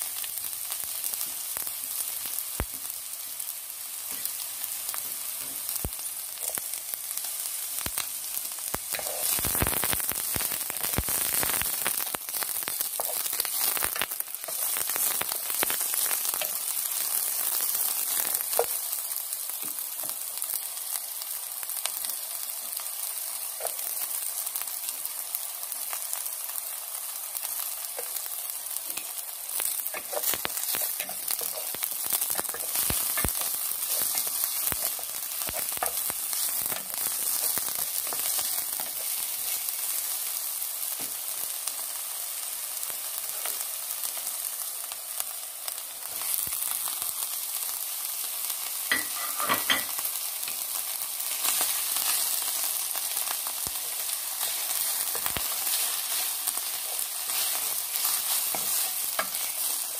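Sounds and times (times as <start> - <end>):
onion sizzling in hot oil: 0.0 - 59.9.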